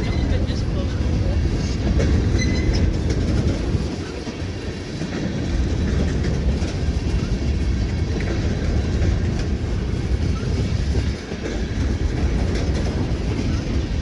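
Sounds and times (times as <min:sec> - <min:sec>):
train rumbling past: 0:00.0 - 0:14.0
wheels clacking over rail joints: 0:00.0 - 0:14.0.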